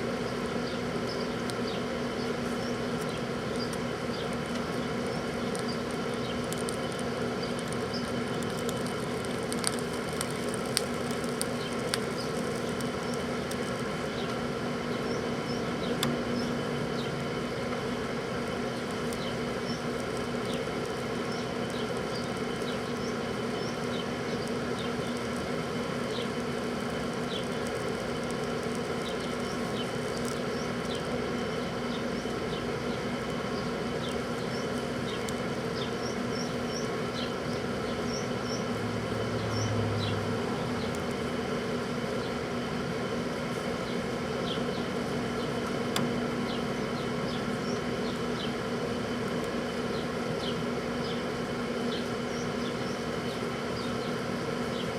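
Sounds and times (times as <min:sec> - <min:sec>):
microwave oven humming: 0:00.0 - 0:54.9.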